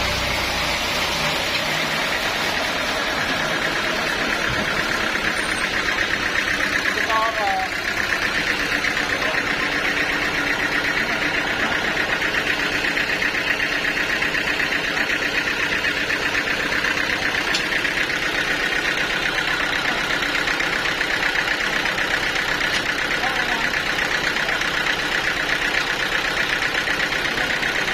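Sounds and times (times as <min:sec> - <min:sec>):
sawmill machinery pulsing: 0:00.0 - 0:27.9.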